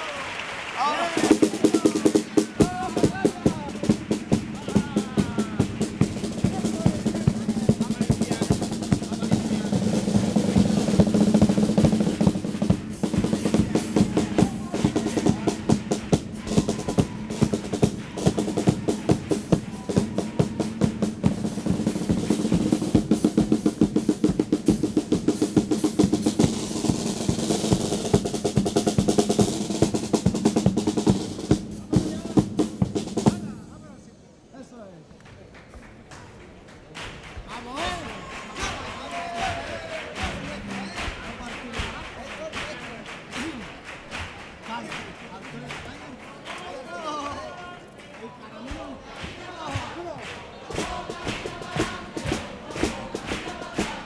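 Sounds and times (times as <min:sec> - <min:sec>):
snare and bass drum beat: 0:01.0 - 0:33.7, 0:37.0 - 0:45.9, 0:48.6 - 0:54.0.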